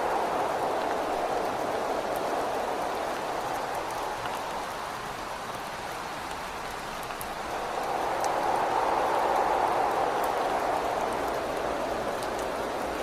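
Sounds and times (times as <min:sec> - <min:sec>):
rain hissing on a window: 0:00.0 - 0:13.0
wind: 0:00.0 - 0:13.0.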